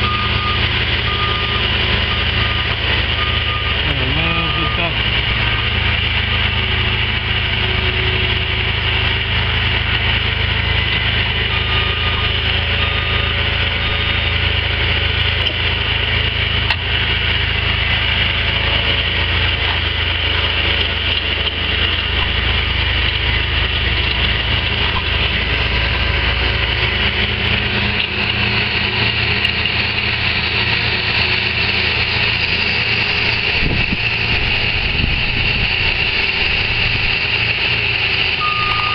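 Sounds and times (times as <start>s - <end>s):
leaf blower engine whining: 0.0s - 38.9s
low engine rumble: 0.0s - 38.9s.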